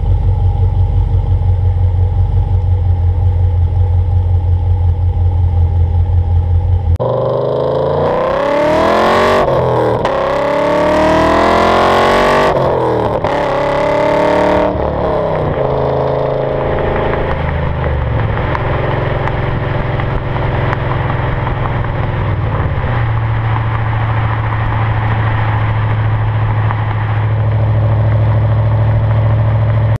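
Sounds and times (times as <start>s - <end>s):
car exhaust revving: 0.0s - 30.0s.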